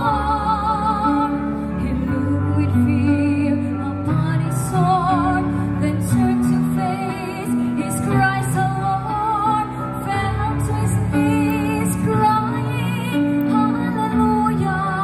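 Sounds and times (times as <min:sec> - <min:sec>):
soft instrumental backing: 0:00.0 - 0:15.0
woman singing a hymn: 0:00.0 - 0:15.0.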